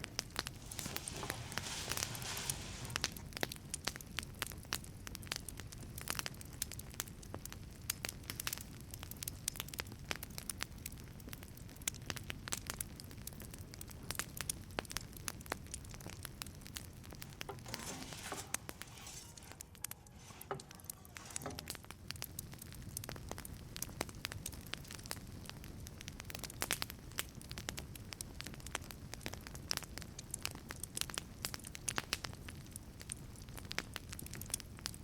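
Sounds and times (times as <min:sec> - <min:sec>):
low rumble of flame: 0:00.0 - 0:35.0
wood fire crackling and popping: 0:00.0 - 0:35.0.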